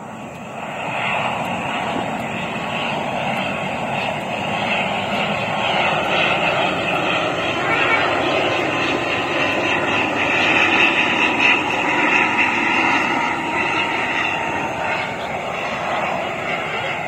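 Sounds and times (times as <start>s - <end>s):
turboprop airliner flying low: 0.0s - 17.0s.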